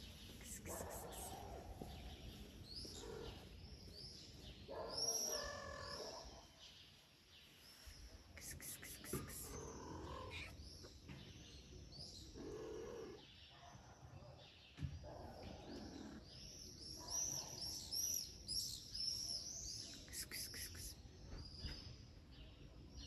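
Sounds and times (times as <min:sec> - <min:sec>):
small birds chirping: 0:00.0 - 0:13.6, 0:14.7 - 0:23.0.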